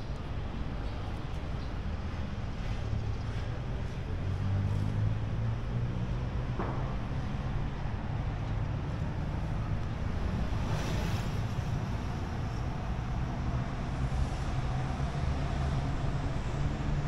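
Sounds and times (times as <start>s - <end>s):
city traffic rumble: 0.0s - 17.0s
engine hum: 0.0s - 17.0s.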